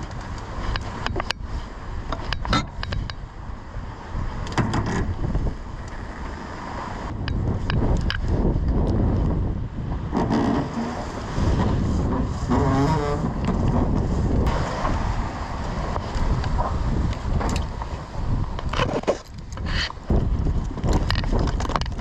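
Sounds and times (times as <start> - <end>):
sea rushing: 0.0 - 22.0
wind buffeting microphone: 0.0 - 22.0.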